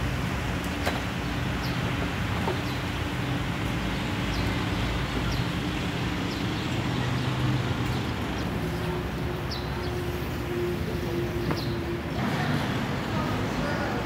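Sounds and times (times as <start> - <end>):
traffic hum: 0.0 - 14.0.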